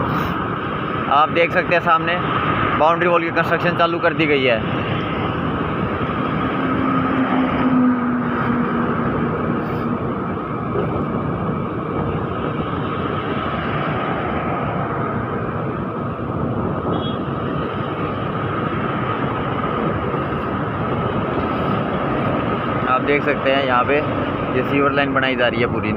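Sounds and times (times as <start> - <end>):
wind and road noise: 0.0 - 25.9.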